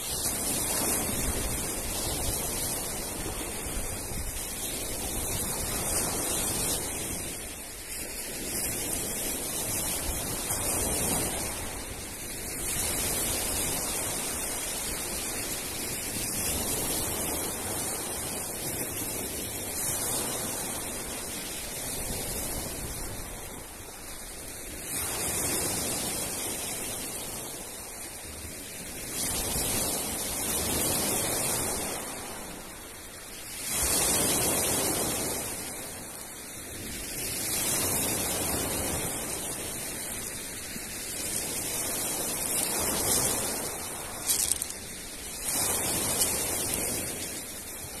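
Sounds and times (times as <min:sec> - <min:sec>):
waves breaking on pebble shore: 0:00.0 - 0:48.0.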